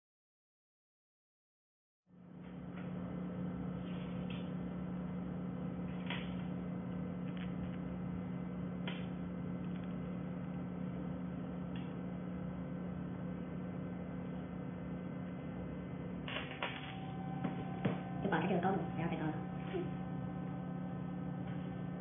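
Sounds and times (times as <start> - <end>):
low electrical hum: 2.1 - 22.0.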